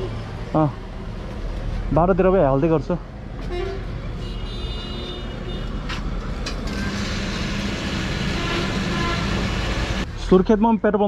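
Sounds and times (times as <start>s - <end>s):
vehicle engine and traffic: 0.0s - 11.0s.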